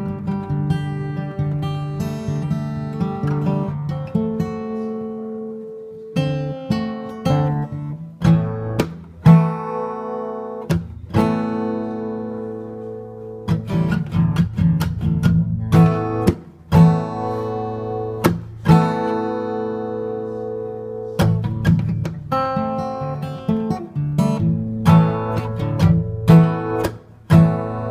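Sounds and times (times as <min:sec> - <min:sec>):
acoustic guitar strumming chords: 0:00.0 - 0:27.9.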